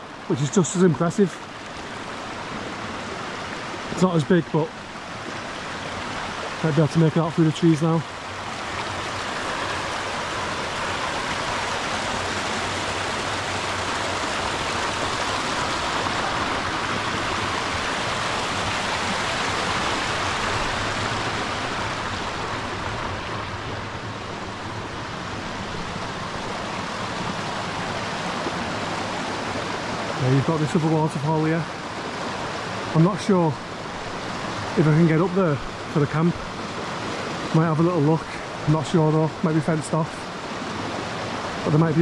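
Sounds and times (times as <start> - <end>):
stream rushing over rocks: 0.0 - 42.0.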